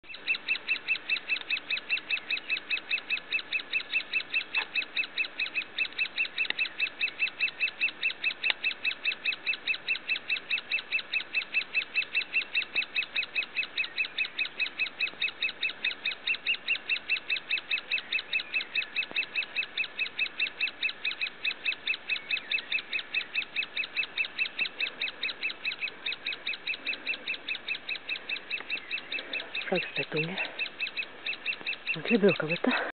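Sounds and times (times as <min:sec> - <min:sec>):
woodpecker nestling begging calls: 0:00.1 - 0:32.9.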